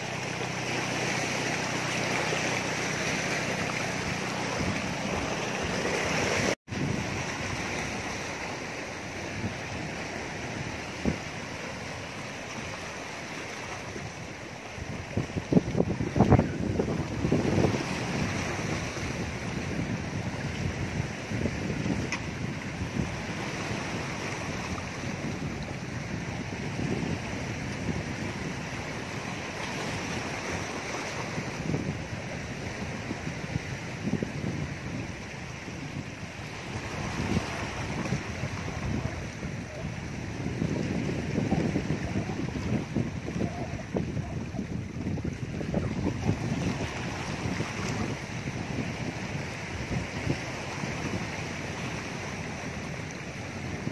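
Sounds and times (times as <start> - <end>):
surf washing against rocks: 0.0 - 53.9
wind on microphone: 0.0 - 53.9.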